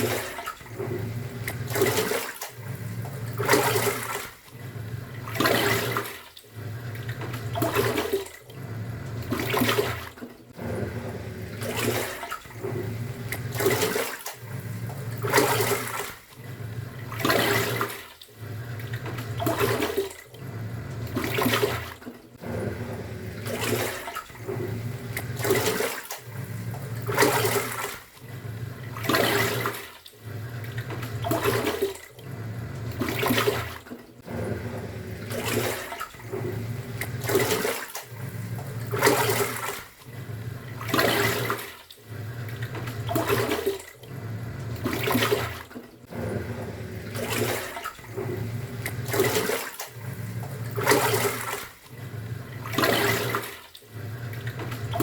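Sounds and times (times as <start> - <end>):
swish of churning water: 0.0 - 55.0
washing machine motor humming: 0.0 - 55.0.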